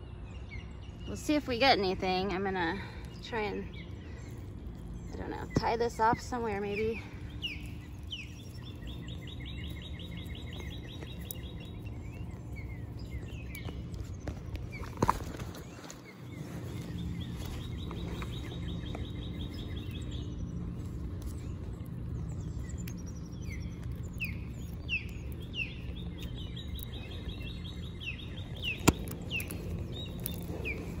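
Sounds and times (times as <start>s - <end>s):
low background hum: 0.0s - 31.0s
bird singing trills and whistles: 3.0s - 31.0s.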